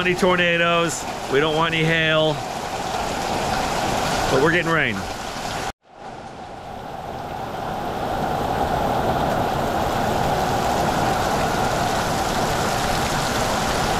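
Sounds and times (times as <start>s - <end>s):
heavy rain falling: 0.0s - 13.9s.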